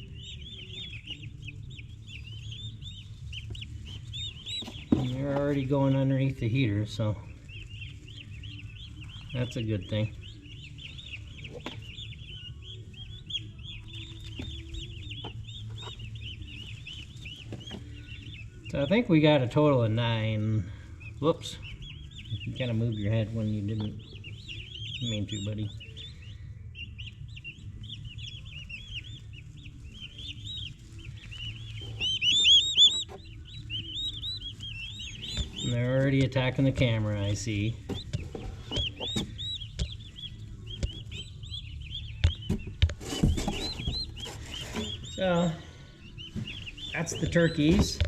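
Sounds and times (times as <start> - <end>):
turkey poults peeping: 0.0 - 48.0.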